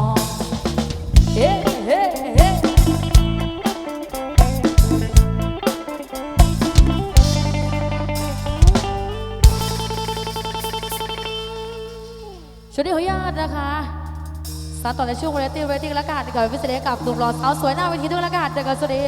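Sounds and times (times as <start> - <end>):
drum kit: 0.0 - 12.8, 14.0 - 19.0
lead guitar with bent notes: 0.0 - 19.0.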